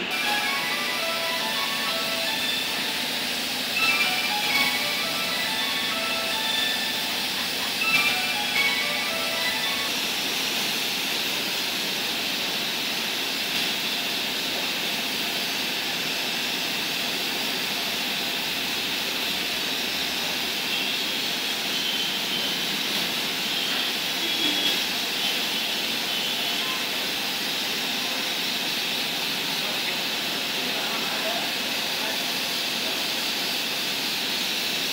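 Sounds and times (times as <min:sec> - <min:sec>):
spray gun air hiss: 0:00.0 - 0:34.9.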